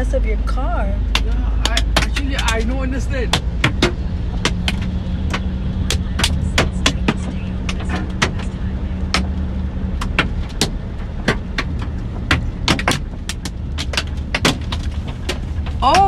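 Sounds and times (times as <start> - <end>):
car low running hum: 0.0 - 16.0
hailstones striking car roof: 1.1 - 16.0.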